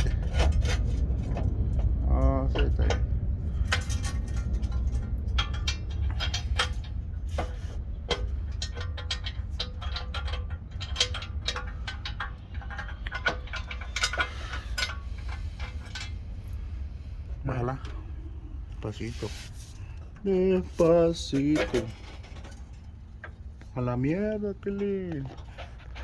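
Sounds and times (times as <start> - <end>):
metallic clicks and knocks: 0.0 - 16.4, 20.0 - 26.0
low rumble: 0.0 - 26.0.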